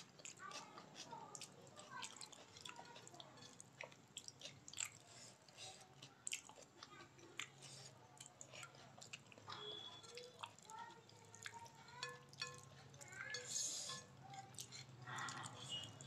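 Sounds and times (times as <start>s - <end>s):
chewing with wet mouth clicks: 0.0s - 16.0s.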